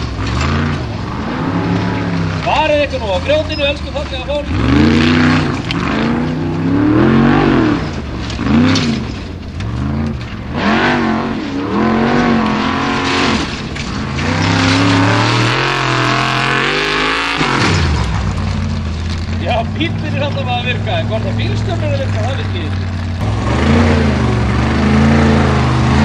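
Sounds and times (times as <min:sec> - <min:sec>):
racing buggy engine revving: 0:00.0 - 0:26.0.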